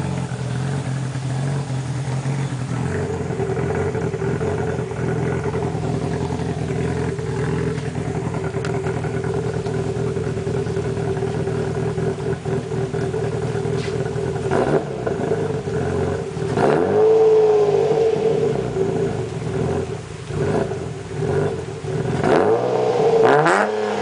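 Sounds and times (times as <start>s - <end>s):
car engine idling: 0.0s - 24.0s
engine revving: 0.0s - 24.0s.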